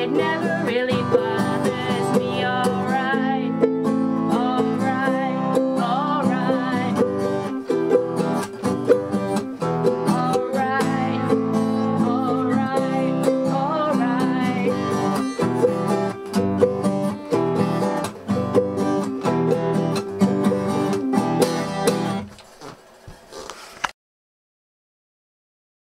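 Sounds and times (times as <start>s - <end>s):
small stringed instrument: 0.0s - 22.3s
acoustic guitar: 0.0s - 23.9s.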